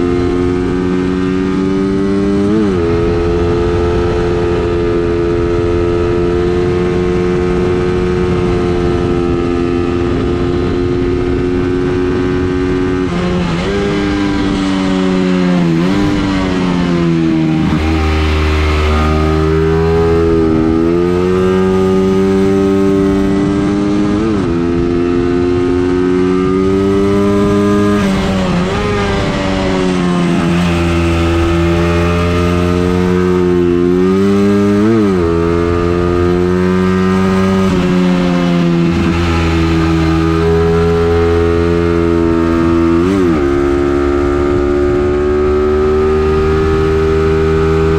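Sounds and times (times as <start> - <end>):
racing engine revving: 0.0 - 47.9.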